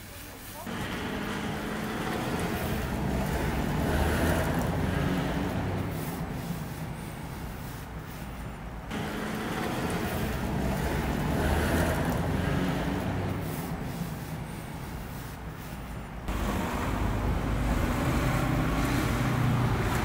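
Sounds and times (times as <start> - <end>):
steady rumble and hiss: 0.0 - 18.3.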